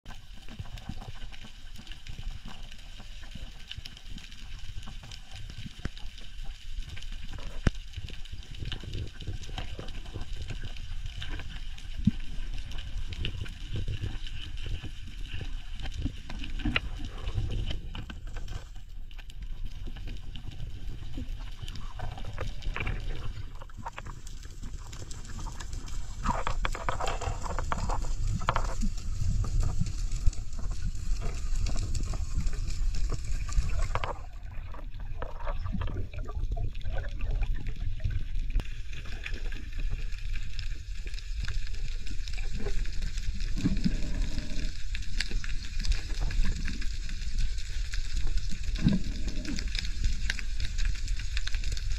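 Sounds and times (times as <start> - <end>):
sharp clicks and crackles: 0.1 - 51.9
underwater rumble of water: 0.1 - 51.9.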